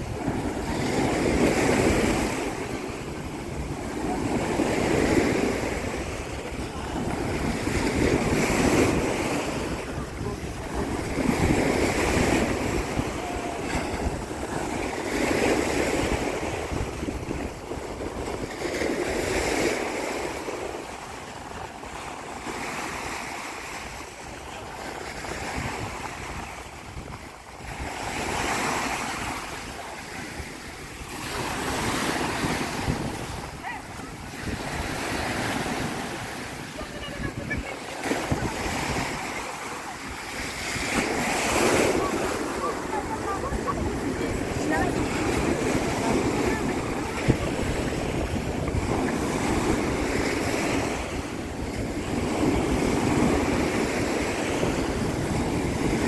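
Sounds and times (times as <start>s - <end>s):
wind buffeting microphone: 0.0s - 23.0s, 23.6s - 56.0s
sea waves breaking on beach: 0.0s - 56.0s.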